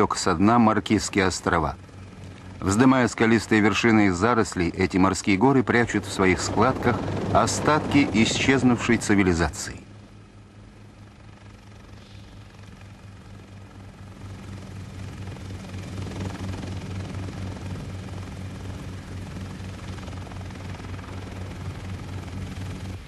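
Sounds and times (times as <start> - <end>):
helicopter rotor drone: 0.0 - 23.0.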